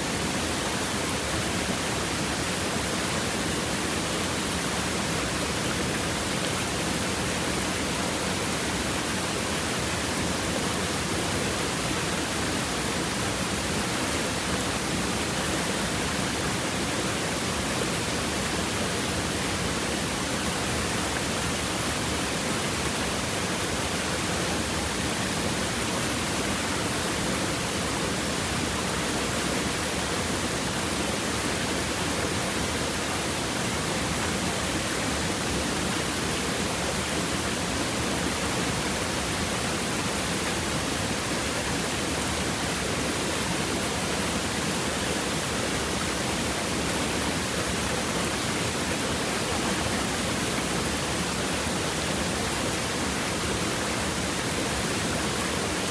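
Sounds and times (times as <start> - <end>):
river flowing over stones: 0.1 - 55.9.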